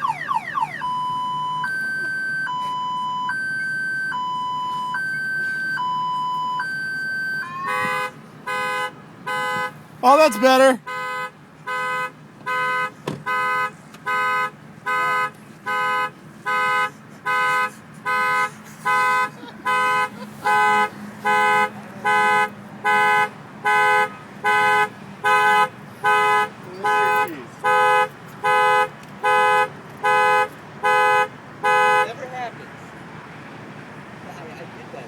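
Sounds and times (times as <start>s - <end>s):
car alarm horn honks: 0.8s - 32.2s.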